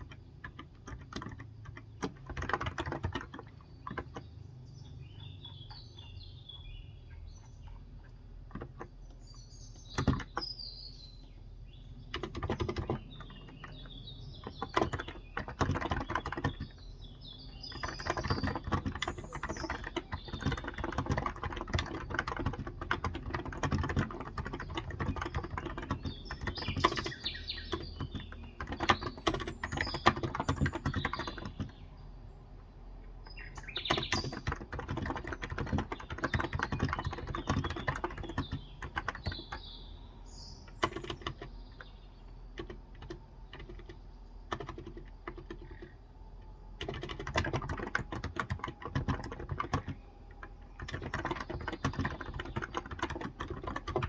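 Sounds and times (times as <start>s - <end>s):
typing on a keyboard: 0.0s - 6.1s, 7.2s - 32.0s, 33.0s - 54.0s
small birds chirping: 0.0s - 54.0s.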